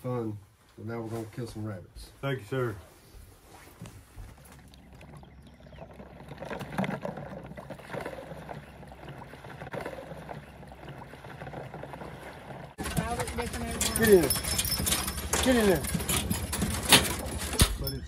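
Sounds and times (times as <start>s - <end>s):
water sloshing from wading: 2.9s - 17.6s.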